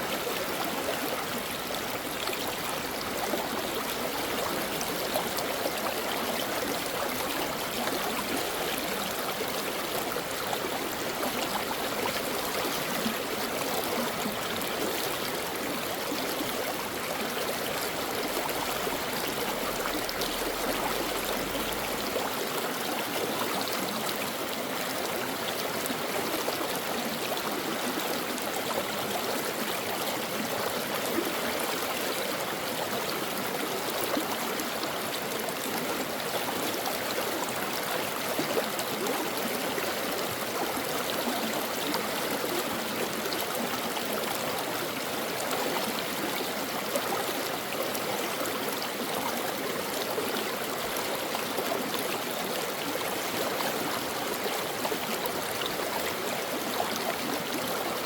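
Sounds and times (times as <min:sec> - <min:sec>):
brook water flowing: 0:00.0 - 0:58.0.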